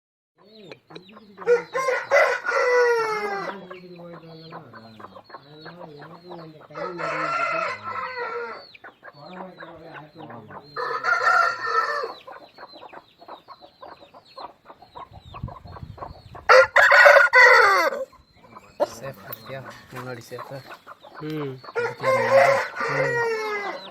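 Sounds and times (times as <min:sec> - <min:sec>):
faint chirps and clucks: 0:00.4 - 0:23.9
roosters crowing: 0:01.2 - 0:14.5, 0:16.4 - 0:23.9.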